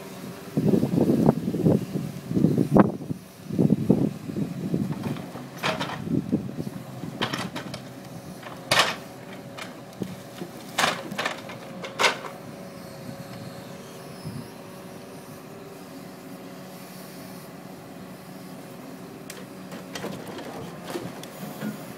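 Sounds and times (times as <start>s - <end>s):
crane hydraulic hum: 0.0s - 21.9s.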